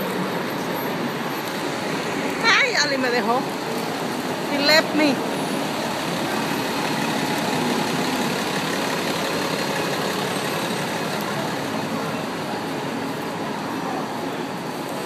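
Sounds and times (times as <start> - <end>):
bus engine idling: 0.0 - 15.0
city street noise: 0.0 - 15.0.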